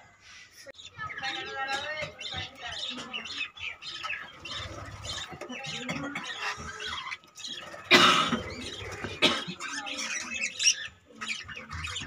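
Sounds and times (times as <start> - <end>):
budgerigars chirping and warbling: 0.6 - 12.0.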